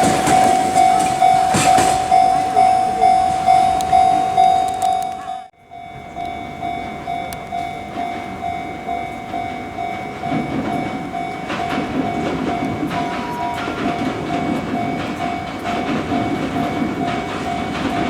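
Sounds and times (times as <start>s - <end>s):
railway warning bell ringing: 0.0s - 18.0s
train rumble: 0.0s - 18.0s.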